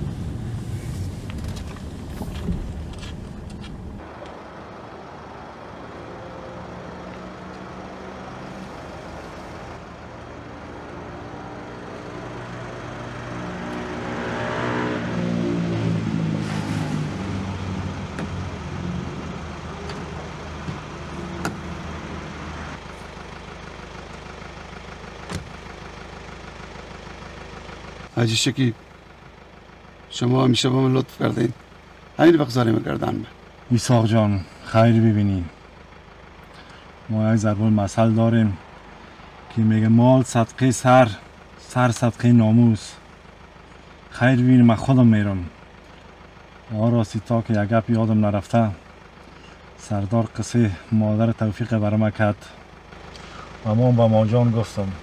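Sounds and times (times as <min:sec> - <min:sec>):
car engine approaching: 0:00.0 - 0:55.0
road noise inside car: 0:00.0 - 0:55.0.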